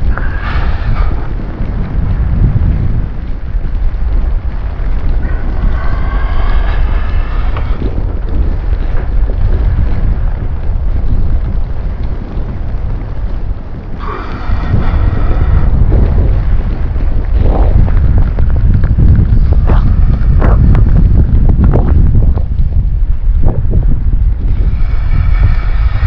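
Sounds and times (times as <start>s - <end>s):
storm wind buffeting microphone: 0.0s - 26.0s.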